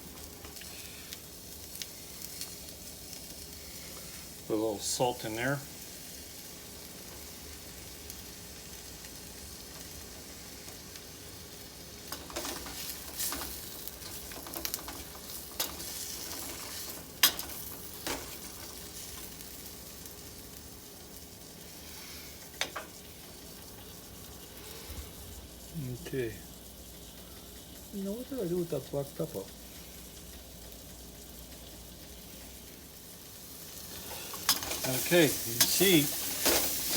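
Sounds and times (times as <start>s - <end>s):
onions sizzling in a pan: 0.0s - 36.9s.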